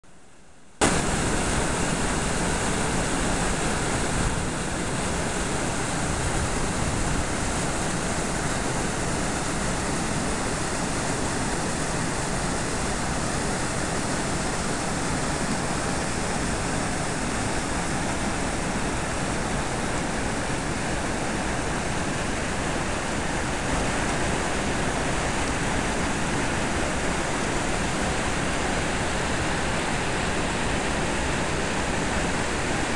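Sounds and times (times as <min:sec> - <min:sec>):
river rapids rushing over boulders: 0:00.8 - 0:32.9.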